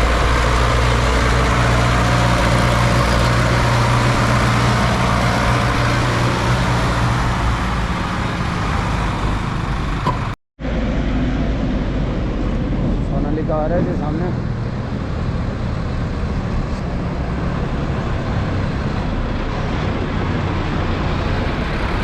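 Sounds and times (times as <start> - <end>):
road noise: 0.0 - 22.0
tractor diesel engine running: 0.0 - 22.0.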